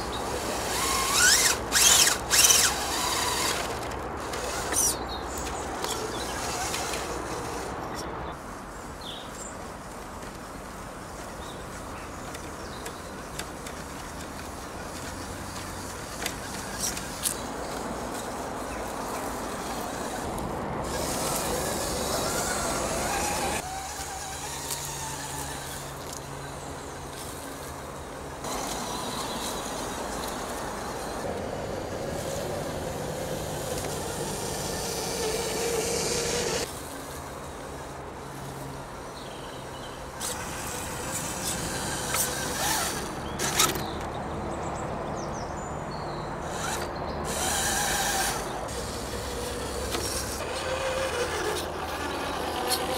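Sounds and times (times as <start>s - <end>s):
electric motor and gears whining: 0.0s - 44.2s, 46.4s - 52.9s.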